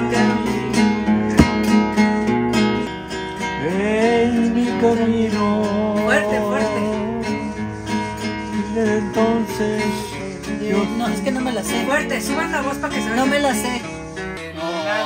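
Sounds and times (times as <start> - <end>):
classical guitar: 0.0 - 15.0.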